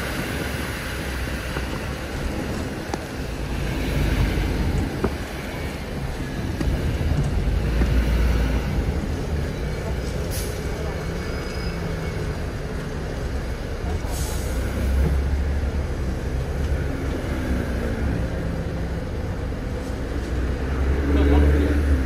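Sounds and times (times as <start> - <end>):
bus engine idling: 0.0 - 20.6.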